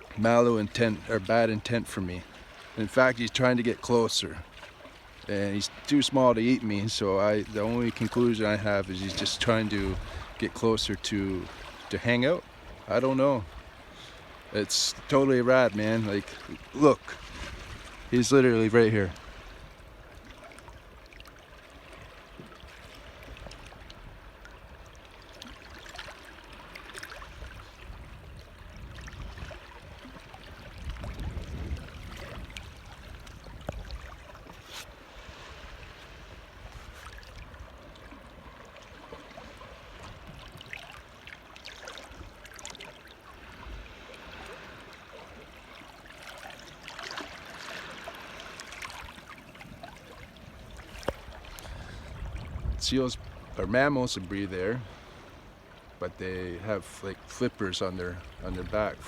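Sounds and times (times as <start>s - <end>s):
water lapping at shore: 0.0s - 59.0s
water splashes: 0.0s - 59.0s.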